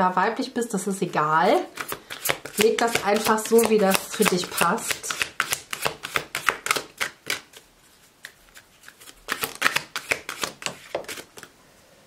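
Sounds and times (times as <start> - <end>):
cards being shuffled: 1.6 - 11.5.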